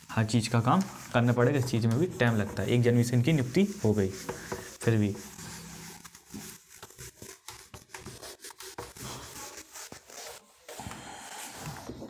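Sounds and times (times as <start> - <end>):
eraser rubbing on whiteboard: 0.0 - 12.0.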